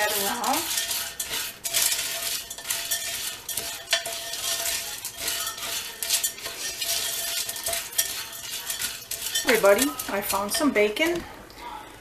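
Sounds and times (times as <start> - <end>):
spoon stirring dry beans: 0.0 - 11.3.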